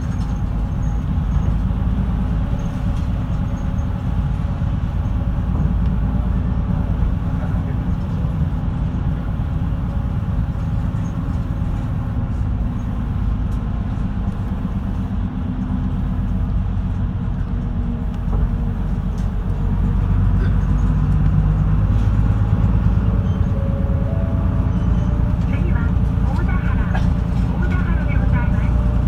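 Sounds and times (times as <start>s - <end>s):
bus engine running: 0.0s - 29.0s
road rumble: 0.0s - 29.0s.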